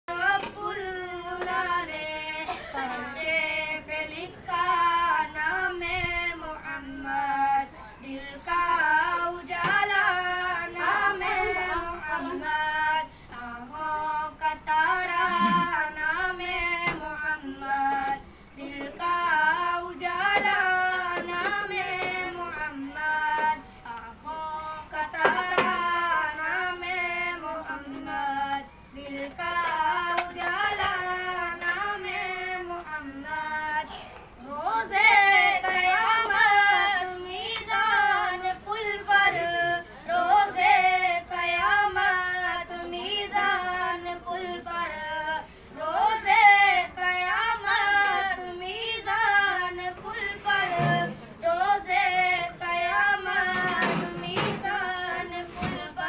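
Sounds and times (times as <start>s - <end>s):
person singing devotional song: 0.0s - 56.0s.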